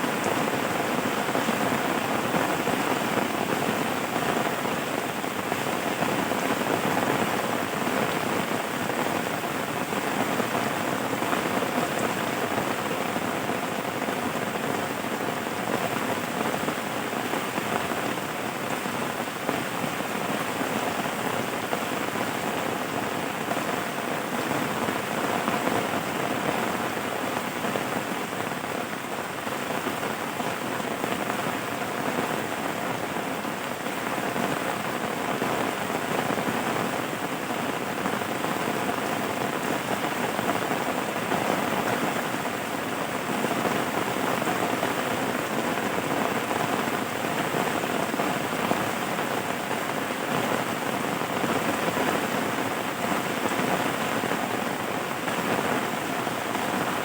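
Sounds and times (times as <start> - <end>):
rain pattering on surfaces: 0.0 - 57.0.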